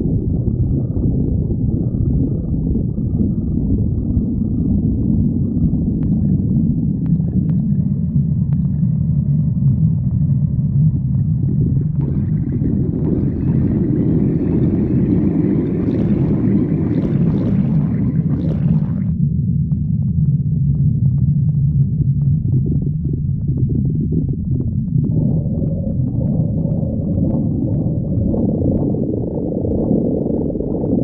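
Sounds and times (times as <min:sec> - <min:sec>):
stomach gurgling: 0:00.0 - 0:31.0
stomach rumbling: 0:00.0 - 0:31.0.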